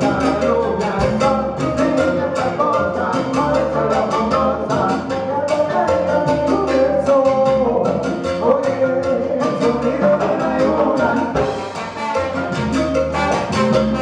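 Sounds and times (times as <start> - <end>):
live band playing latin music: 0.0 - 14.0.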